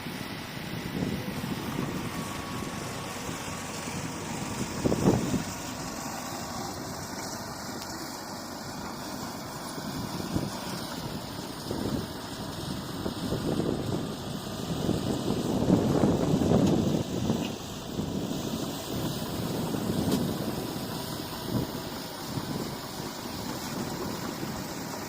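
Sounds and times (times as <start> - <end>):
diesel engine running at low revs: 0.0 - 25.0.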